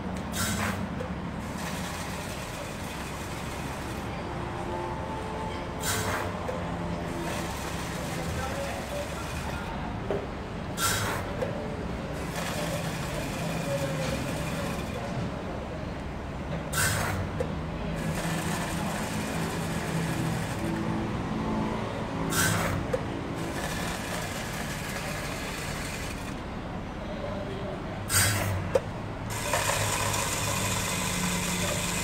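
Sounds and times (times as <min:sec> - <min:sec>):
dispensing machine humming and hissing: 0:00.0 - 0:26.8, 0:27.9 - 0:32.0.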